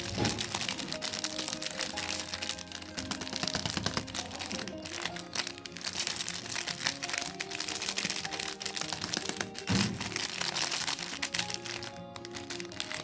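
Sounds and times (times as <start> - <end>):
background music melody: 0.0 - 13.0
plastic candy wrappers crinkling: 0.0 - 13.0.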